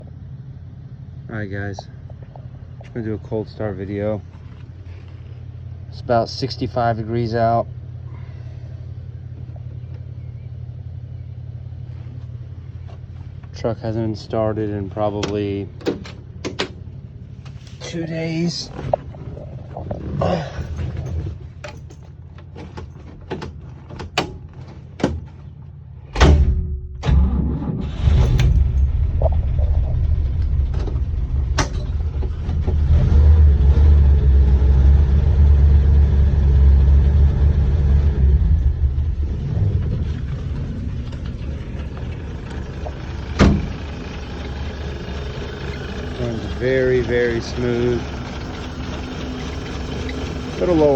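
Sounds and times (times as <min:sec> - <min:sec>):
engine cranking and idling: 0:00.0 - 0:50.9.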